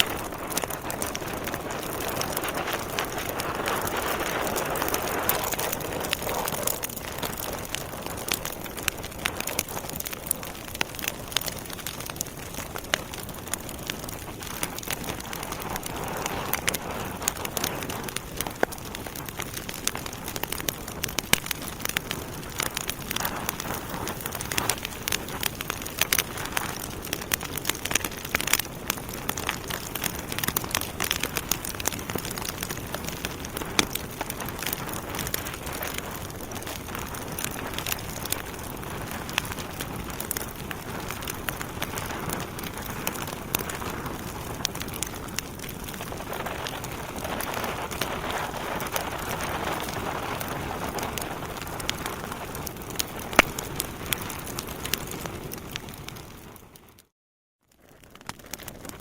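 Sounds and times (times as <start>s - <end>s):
wood fire crackling and popping: 0.0s - 57.1s, 57.8s - 59.0s.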